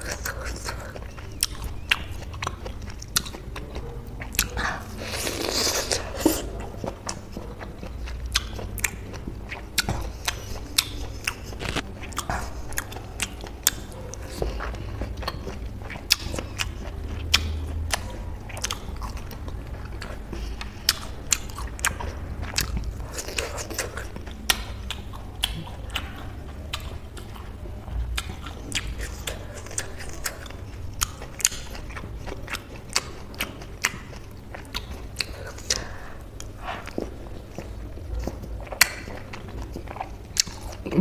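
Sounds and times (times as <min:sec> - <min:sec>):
mouth clicks and smacks: 0:00.0 - 0:41.0
wet chewing of orange: 0:00.0 - 0:41.0.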